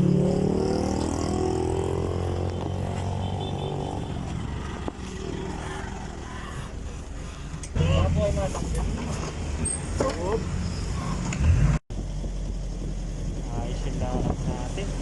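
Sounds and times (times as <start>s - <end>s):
vehicle engine accelerating: 0.0s - 6.8s, 7.6s - 15.0s.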